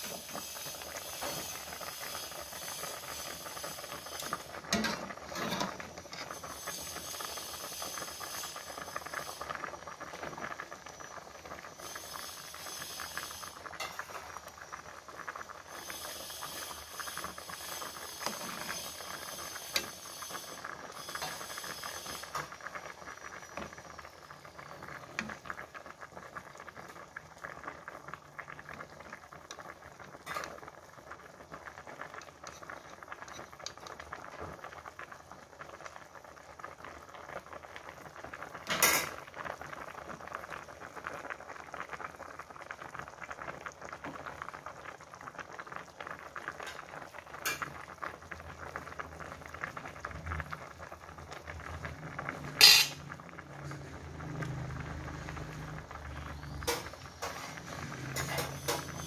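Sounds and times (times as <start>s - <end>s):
broth boiling in a wok: 0.0s - 59.0s.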